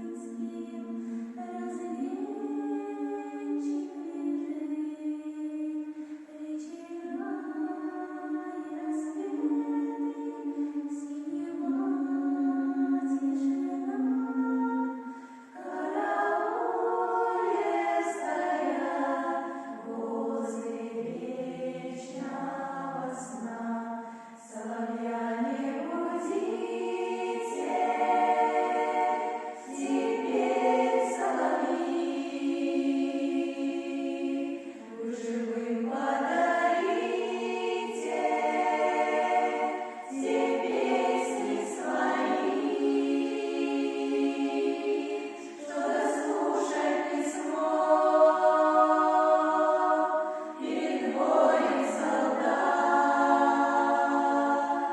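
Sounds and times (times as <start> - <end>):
choir singing in harmony: 0.0 - 54.9.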